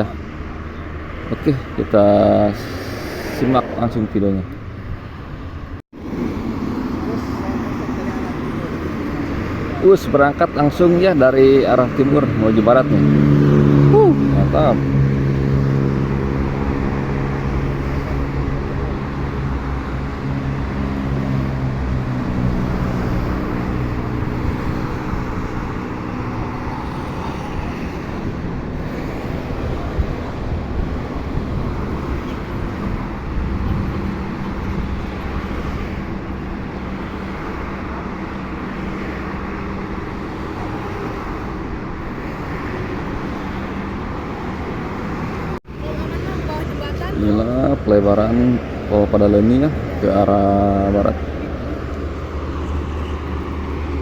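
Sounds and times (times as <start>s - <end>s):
highway traffic noise: 0.0s - 54.0s.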